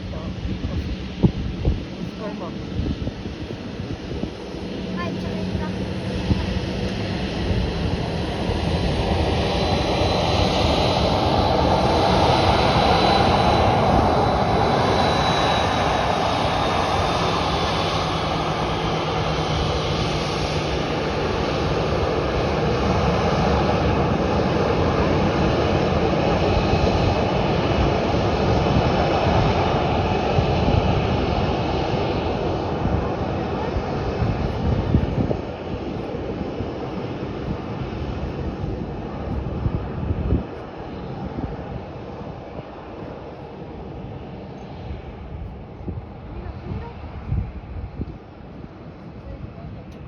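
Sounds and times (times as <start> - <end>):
high engine whine: 0.0 - 50.0
jet engines roaring: 0.0 - 50.0.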